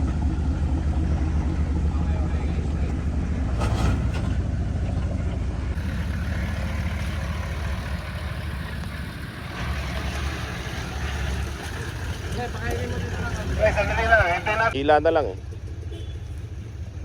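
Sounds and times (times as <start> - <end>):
vehicle engine running low: 0.0 - 17.0.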